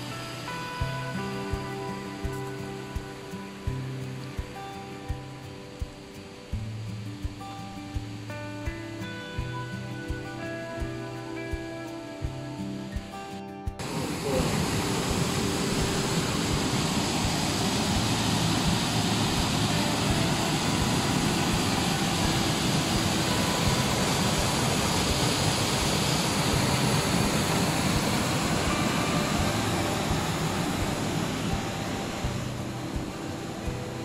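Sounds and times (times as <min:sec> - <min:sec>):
stream rushing over rocks: 0:00.0 - 0:09.0, 0:13.8 - 0:34.0.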